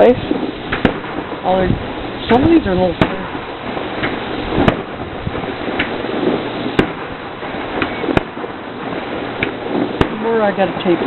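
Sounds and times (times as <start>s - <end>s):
fireworks bangs echoing: 0.0s - 11.0s
steady background noise: 0.0s - 11.0s.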